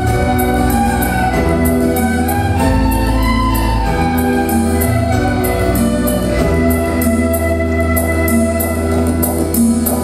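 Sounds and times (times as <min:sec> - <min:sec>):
backing track with deep bass: 0:00.0 - 0:10.0
recorder ensemble playing melody: 0:00.0 - 0:10.0.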